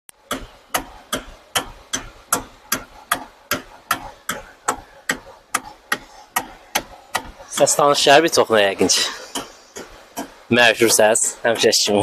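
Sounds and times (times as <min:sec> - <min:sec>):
steering column knocking: 0:00.1 - 0:12.0.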